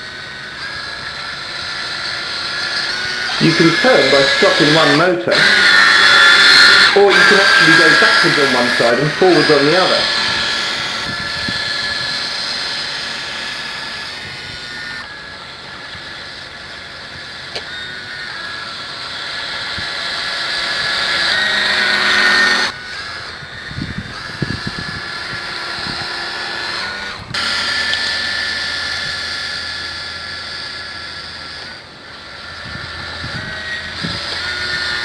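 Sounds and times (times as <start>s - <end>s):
small electric motors whining: 0.0s - 35.0s.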